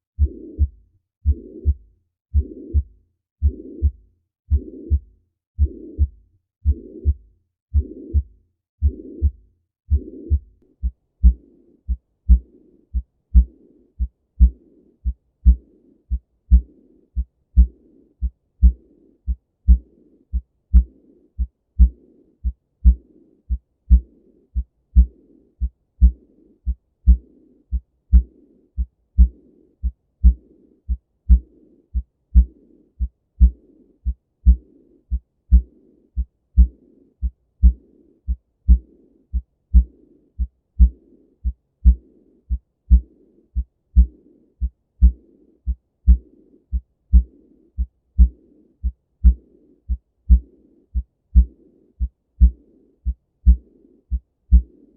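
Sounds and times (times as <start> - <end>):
heart murmur: 0.2 - 7.2, 7.8 - 20.9, 21.8 - 26.2, 27.0 - 31.4, 32.4 - 34.6, 35.5 - 36.7, 37.6 - 50.5, 51.3 - 54.7
heartbeat: 0.2 - 54.8.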